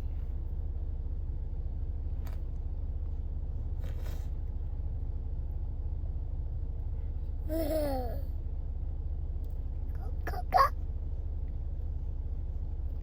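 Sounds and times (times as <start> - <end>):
faint hum: 0.0 - 13.0
steady low rumble: 0.0 - 13.0.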